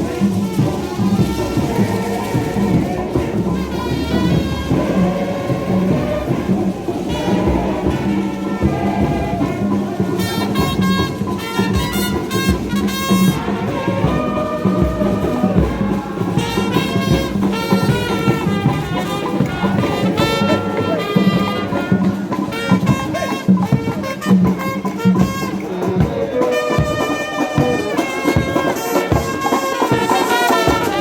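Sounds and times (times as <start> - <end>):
brass band playing: 0.0 - 31.0.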